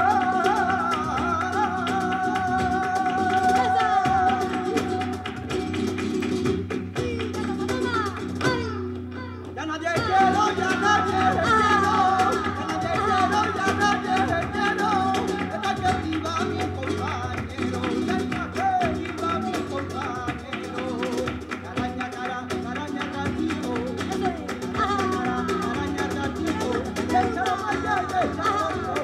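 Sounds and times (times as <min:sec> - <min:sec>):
person singing: 0:00.0 - 0:05.4, 0:06.9 - 0:29.0
flamenco guitar: 0:00.0 - 0:29.0
hand-clapping: 0:00.0 - 0:29.0
percussion: 0:00.0 - 0:29.0.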